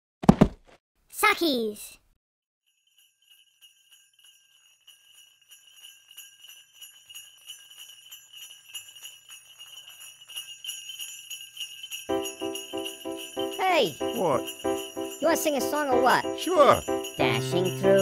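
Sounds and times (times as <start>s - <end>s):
sleigh bells jingling: 2.7s - 18.0s.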